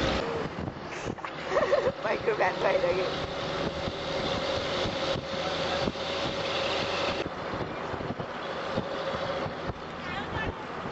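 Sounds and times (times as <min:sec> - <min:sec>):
road and wind noise: 0:00.0 - 0:10.9.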